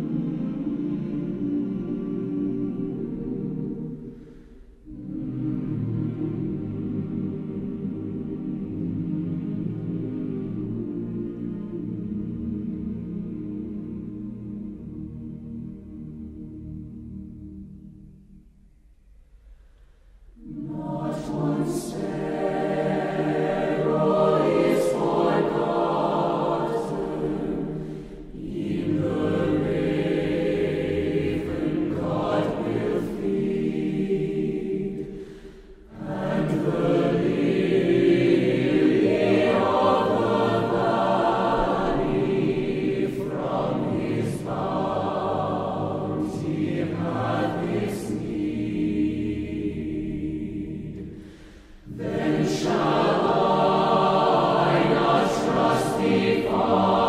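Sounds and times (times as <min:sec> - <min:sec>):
choir singing: 0:00.0 - 0:18.0, 0:20.3 - 0:57.0.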